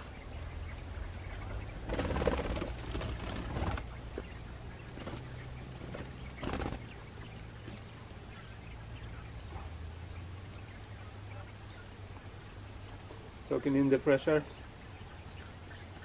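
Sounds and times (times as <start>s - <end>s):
quail rustling in ground litter: 0.0s - 16.0s.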